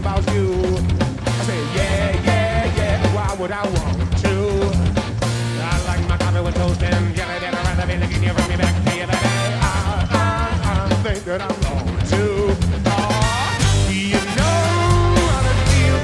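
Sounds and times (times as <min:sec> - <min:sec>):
person singing: 0:00.0 - 0:04.8, 0:05.6 - 0:16.0
rock band playing: 0:00.0 - 0:16.0.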